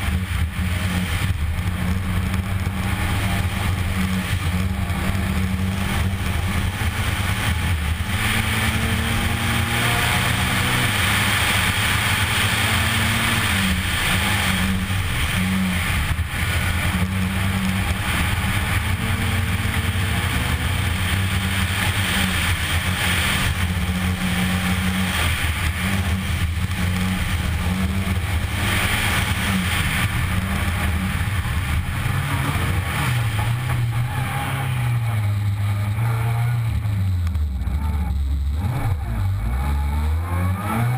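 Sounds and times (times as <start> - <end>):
tyre and gravel noise: 0.0 - 39.8
rally car engine revving: 0.0 - 40.9.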